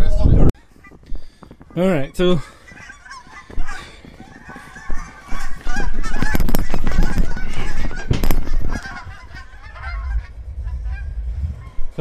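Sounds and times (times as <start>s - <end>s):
wind buffeting microphone: 0.0s - 12.0s
geese honking: 0.6s - 12.0s.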